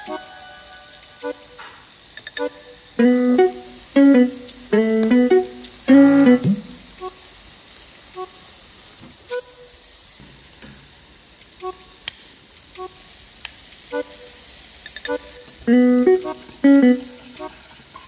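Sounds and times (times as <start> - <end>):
meat sizzling on a grill: 0.0 - 18.0.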